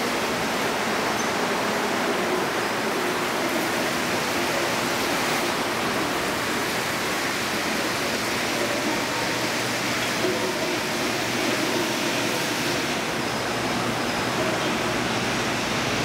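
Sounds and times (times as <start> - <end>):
metro train rolling: 0.0 - 16.0.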